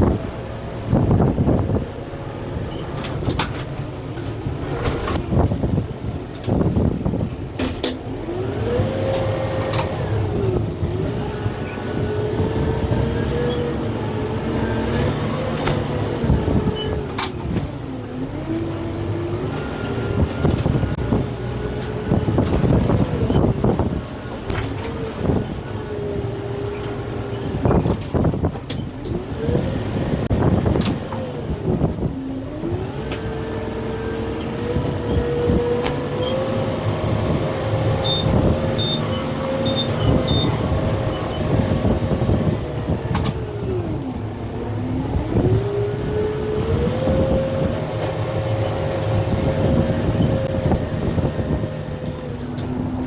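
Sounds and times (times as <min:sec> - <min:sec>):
tractor diesel engine working: 0:00.0 - 0:53.0.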